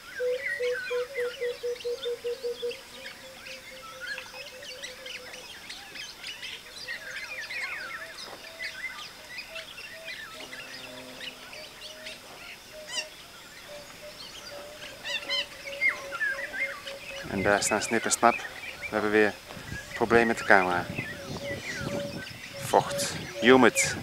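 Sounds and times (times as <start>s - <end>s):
birds chirping and whistling: 0.0s - 24.0s
repeated low bird notes: 0.0s - 24.0s.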